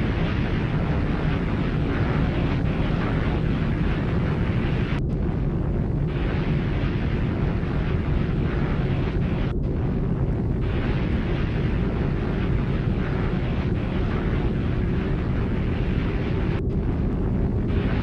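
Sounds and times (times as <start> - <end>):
deep explosion rumble: 0.0 - 18.0.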